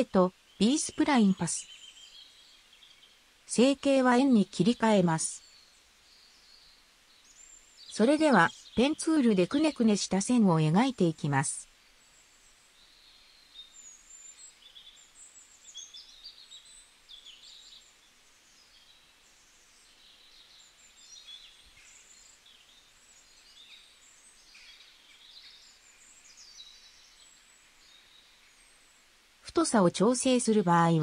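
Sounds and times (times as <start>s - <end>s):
soft hiss: 0.0s - 10.4s, 11.2s - 31.0s
birds chirping and trilling: 0.0s - 31.0s.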